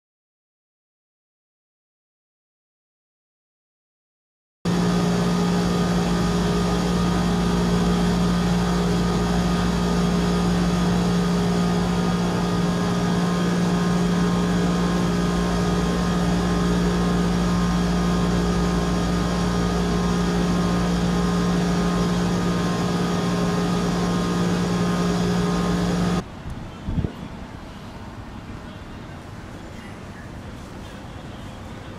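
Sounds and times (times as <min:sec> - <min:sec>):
air conditioner running: 0:04.7 - 0:31.9.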